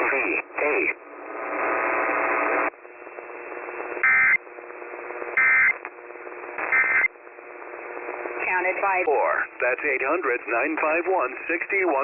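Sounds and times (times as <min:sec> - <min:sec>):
faint steady hum: 0:00.0 - 0:12.0
loud radio static: 0:00.0 - 0:12.0.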